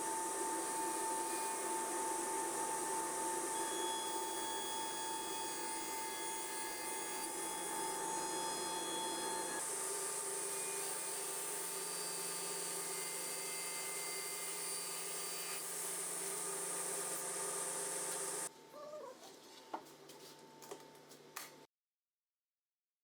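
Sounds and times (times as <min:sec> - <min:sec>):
panel saw humming with a whine: 0:00.0 - 0:18.5.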